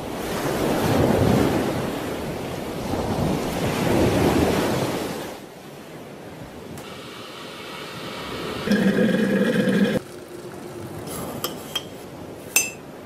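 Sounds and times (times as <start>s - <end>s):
waves breaking on shore: 0.0s - 12.6s.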